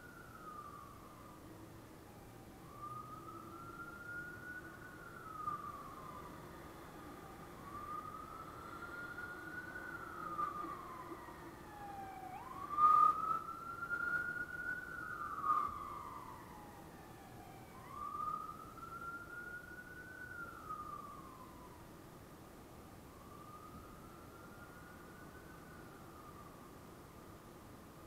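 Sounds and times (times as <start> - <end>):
siren wailing: 0.0 - 1.4, 2.1 - 21.8, 23.1 - 26.5.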